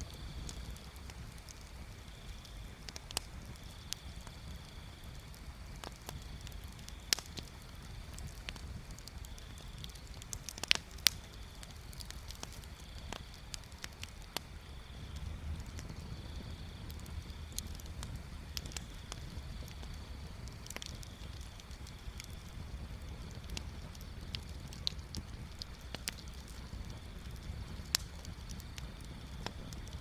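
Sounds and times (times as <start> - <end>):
bonfire pops and snaps: 0.0 - 30.0
low fire rumble: 0.0 - 30.0.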